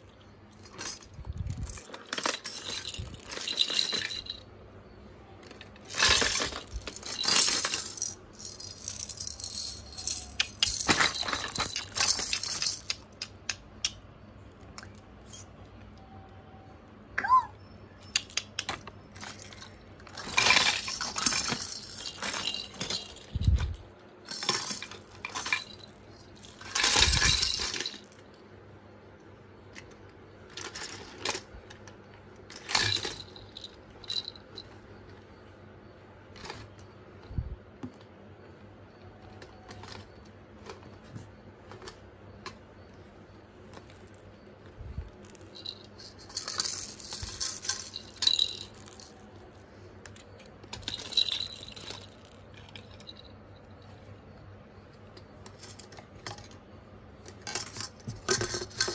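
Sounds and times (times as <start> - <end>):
plastic toys clattering: 0.0 - 4.7, 5.3 - 13.5, 18.1 - 28.5, 29.6 - 38.2, 39.0 - 58.9.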